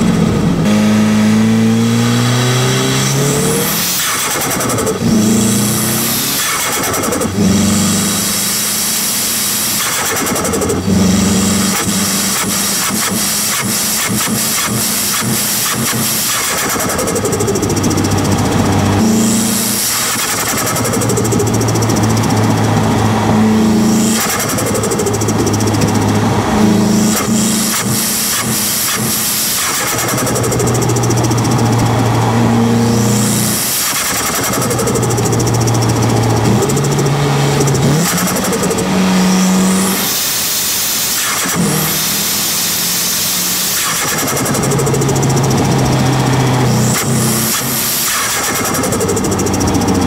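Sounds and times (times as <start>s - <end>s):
turbocharged car engine running: 0.0s - 50.0s.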